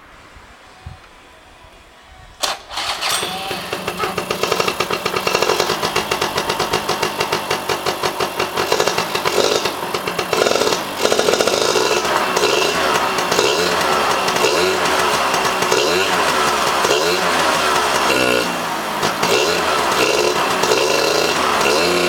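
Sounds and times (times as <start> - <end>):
engine starting and running: 2.4 - 22.0.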